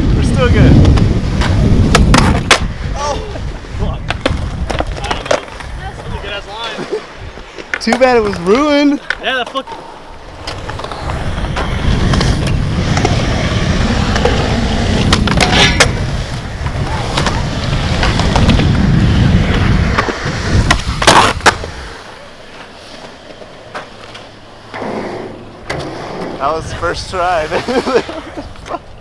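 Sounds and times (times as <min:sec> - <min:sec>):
skateboard wheels rolling on concrete: 0:00.0 - 0:29.0
skateboard clacks: 0:00.7 - 0:06.2, 0:07.6 - 0:26.4.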